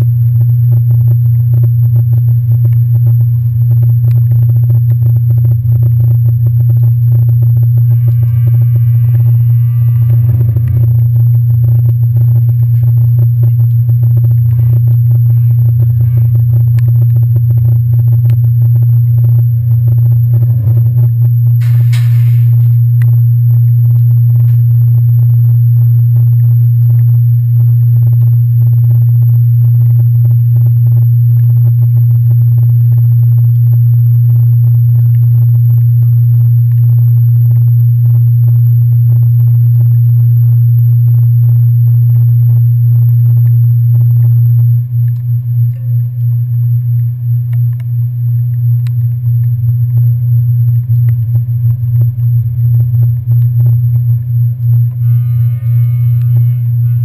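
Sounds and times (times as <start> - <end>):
ferry engines low drone: 0.0 - 57.0.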